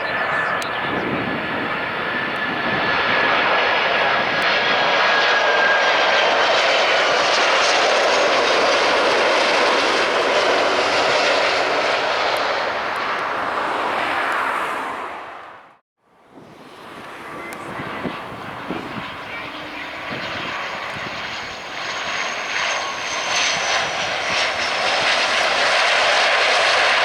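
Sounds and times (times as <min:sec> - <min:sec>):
jet airliner passing: 0:00.0 - 0:27.0.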